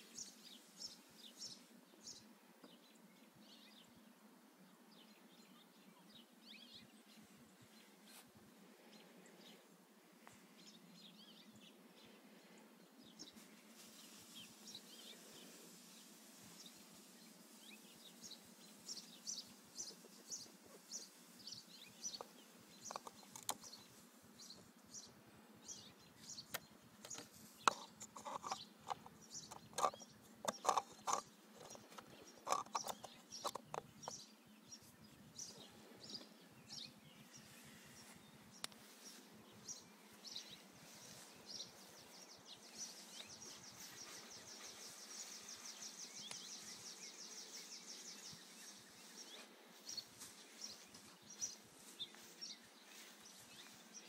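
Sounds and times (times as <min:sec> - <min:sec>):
birds chirping: 0:00.0 - 0:54.0
faint outdoor hush: 0:00.0 - 0:54.0.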